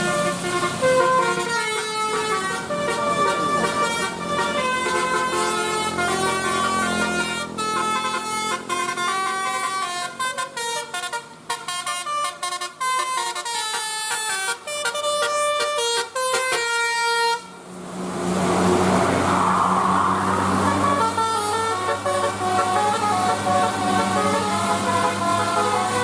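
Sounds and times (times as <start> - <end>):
multi-trumpet bus horn melody: 0.0 - 17.7, 18.4 - 26.0.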